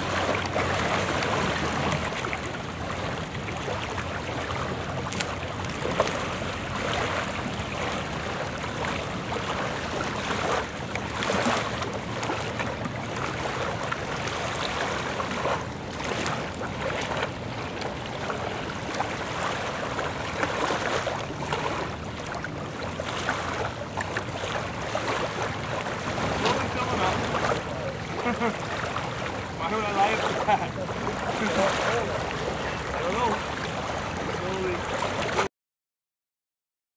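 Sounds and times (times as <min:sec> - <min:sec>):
lake water lapping: 0:00.0 - 0:35.5.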